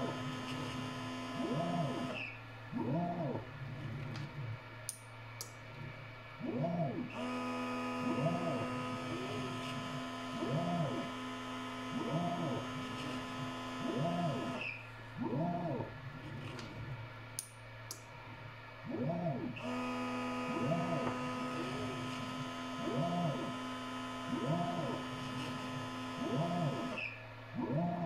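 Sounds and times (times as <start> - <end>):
stepper motors whining: 0.0 - 5.0, 6.4 - 17.0, 18.8 - 28.0
steady hum: 0.0 - 28.0.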